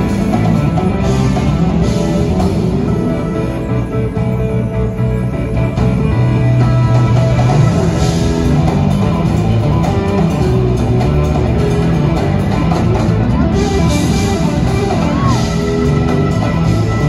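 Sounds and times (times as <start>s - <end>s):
electric guitar: 0.0s - 17.0s
live rock band: 0.0s - 17.0s
moving bass line: 0.0s - 17.0s.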